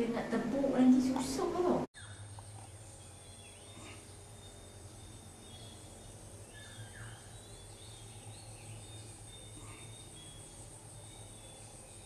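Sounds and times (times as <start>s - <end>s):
faint high chirps: 2.0s - 12.0s.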